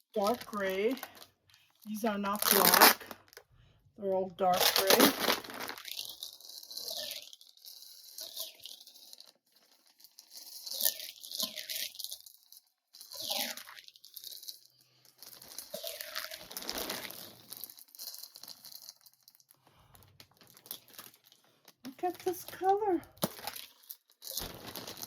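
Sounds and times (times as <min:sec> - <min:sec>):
bag crinkling and rustling: 0:00.0 - 0:03.4, 0:04.4 - 0:25.0.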